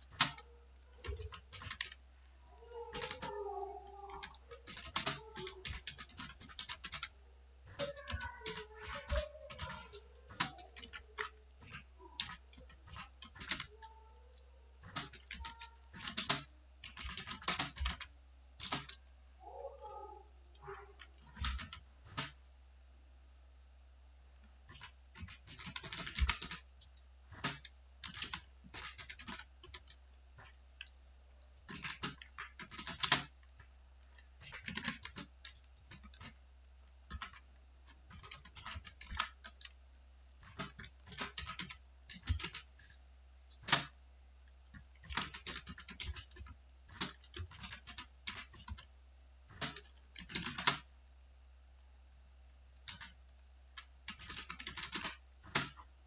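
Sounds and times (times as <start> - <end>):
typing on computer keyboard: 0.0 - 22.4, 24.4 - 31.0, 31.6 - 36.4, 37.0 - 39.8, 40.4 - 44.0, 44.6 - 48.9, 49.5 - 50.9, 52.8 - 55.9.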